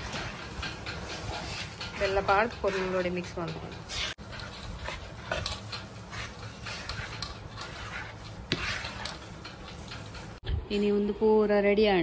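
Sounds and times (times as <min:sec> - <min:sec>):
ladle scraping in steel bowl: 0:00.0 - 0:10.4.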